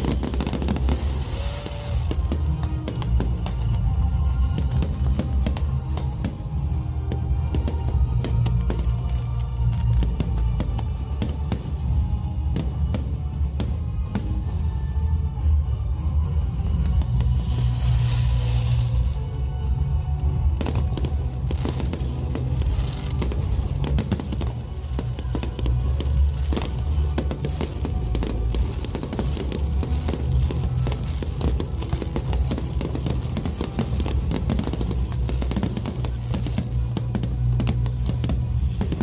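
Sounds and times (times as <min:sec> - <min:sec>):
fireworks bursting and crackling: 0:00.0 - 0:15.6, 0:16.4 - 0:39.0
music with strong bass: 0:00.0 - 0:39.0.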